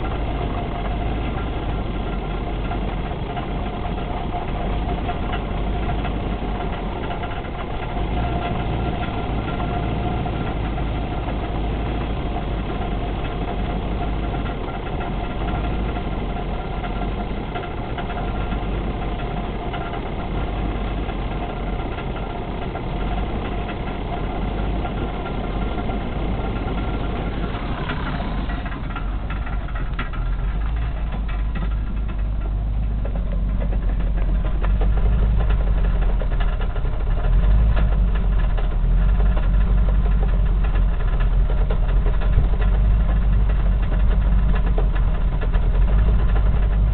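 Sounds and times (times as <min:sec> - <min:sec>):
car engine rumbling: 0:00.0 - 0:46.9
engine whine: 0:00.0 - 0:46.9.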